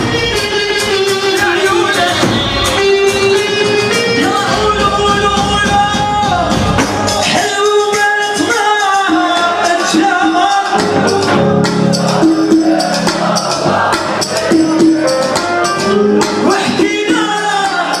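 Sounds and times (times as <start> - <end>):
person singing over a band: 0.0 - 18.0.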